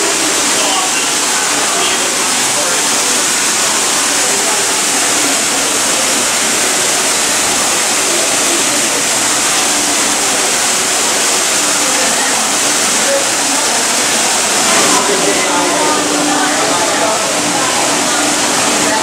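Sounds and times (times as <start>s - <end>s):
indistinct voices: 0.0s - 19.0s
waterfall splashing into pool: 0.0s - 19.0s.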